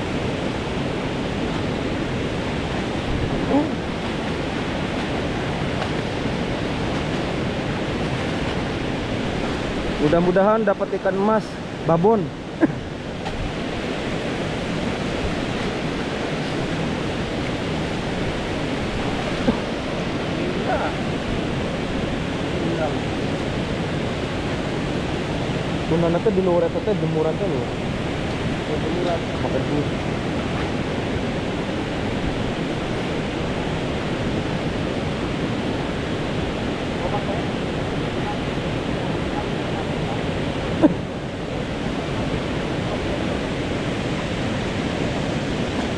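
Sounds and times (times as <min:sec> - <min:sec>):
water rushing over weir: 0:00.0 - 0:45.9.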